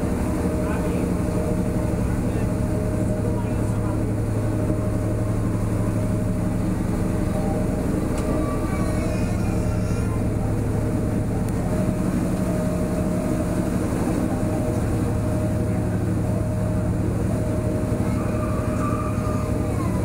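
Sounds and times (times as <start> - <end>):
boat engine droning: 0.0 - 20.0
faint voices: 0.3 - 20.0.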